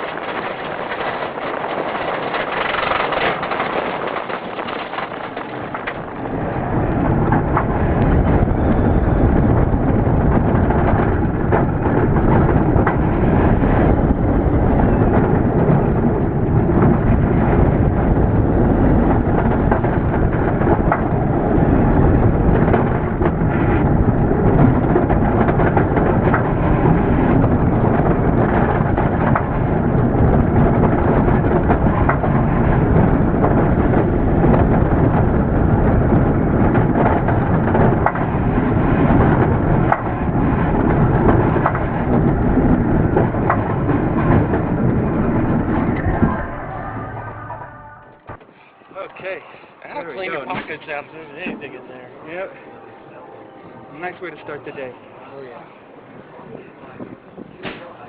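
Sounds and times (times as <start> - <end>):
roller coaster rushing rumble: 0.0 - 58.0.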